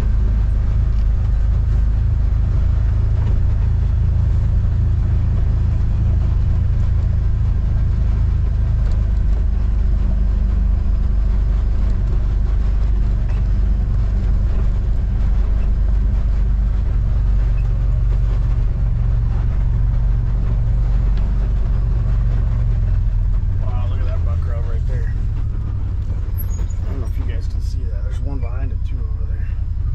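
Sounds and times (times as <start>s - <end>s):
vehicle engine droning: 0.0s - 29.9s.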